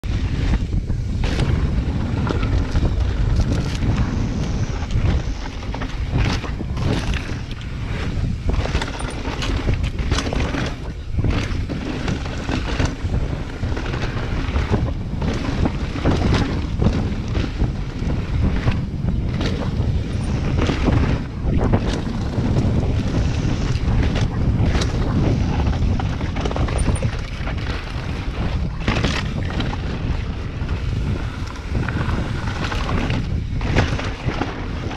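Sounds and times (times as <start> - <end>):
wind rumbling on microphone: 0.0 - 34.9
bike clacking and rattling over rocks: 0.1 - 34.9.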